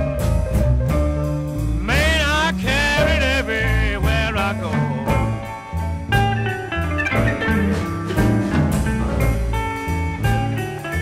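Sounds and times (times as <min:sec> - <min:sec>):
electric blues band playing: 0:00.0 - 0:11.0
bending lead guitar notes: 0:01.8 - 0:11.0.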